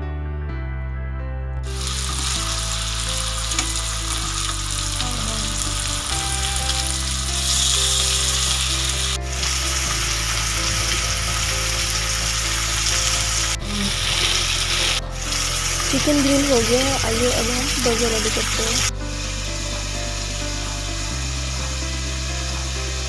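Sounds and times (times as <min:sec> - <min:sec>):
soft background music: 0:00.0 - 0:23.0
chicken sizzling in hot oil: 0:01.6 - 0:23.0.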